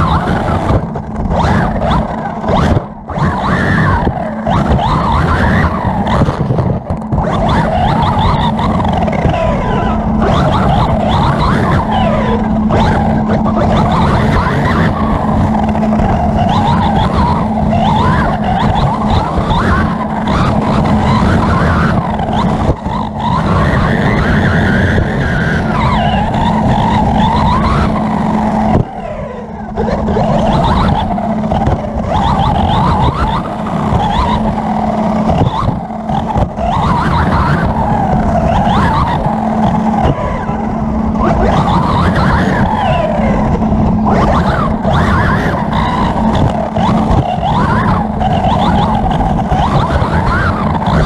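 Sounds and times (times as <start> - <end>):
electric motor whining: 0.0 - 51.0
tyres and chassis rattling on dirt: 0.0 - 51.0.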